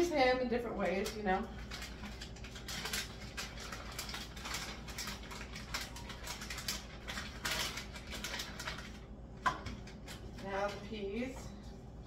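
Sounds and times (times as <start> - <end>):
plastic package crinkling: 0.6 - 10.8.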